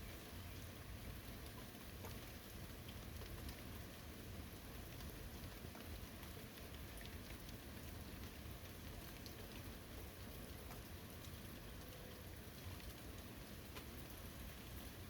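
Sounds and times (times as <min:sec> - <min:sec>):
quiet steady rain: 0:00.0 - 0:15.0.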